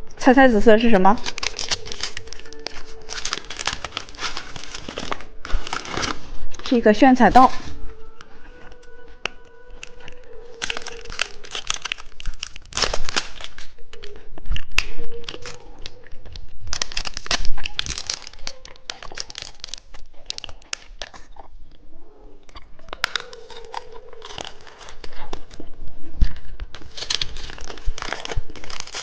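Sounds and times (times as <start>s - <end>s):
plastic packet crinkling: 0.0s - 21.6s, 22.5s - 29.0s.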